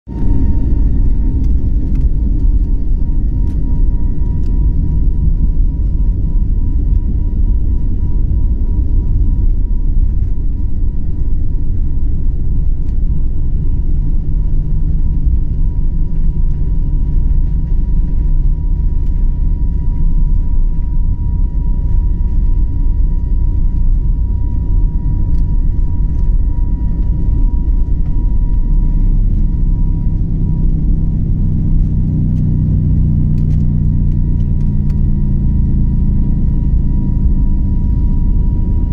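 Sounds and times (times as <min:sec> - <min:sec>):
jet engines at takeoff thrust: 0:00.1 - 0:38.9
low hum: 0:00.1 - 0:38.9
thin steady whine: 0:00.1 - 0:38.9.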